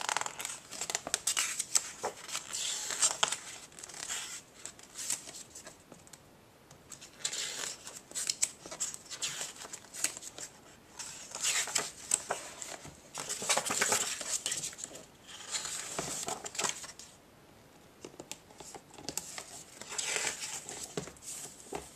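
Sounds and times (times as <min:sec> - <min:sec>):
book pages turning: 0:00.0 - 0:05.8, 0:06.9 - 0:17.1, 0:18.3 - 0:21.9.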